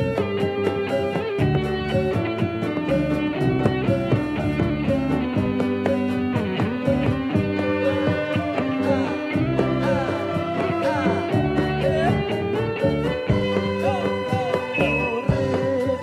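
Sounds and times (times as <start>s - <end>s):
drums: 0.0s - 16.0s
keyboard melody with sliding notes: 0.0s - 16.0s.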